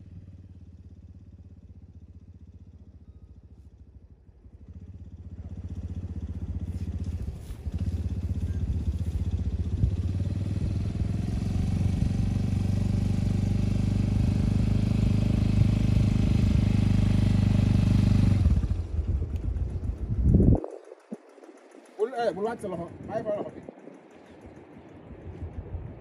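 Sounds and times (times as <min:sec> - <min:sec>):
quad bike engine running: 0:00.0 - 0:25.8.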